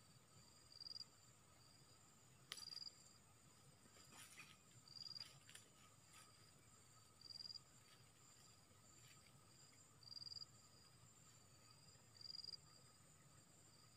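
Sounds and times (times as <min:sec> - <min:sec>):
insects droning: 0:00.0 - 0:13.9.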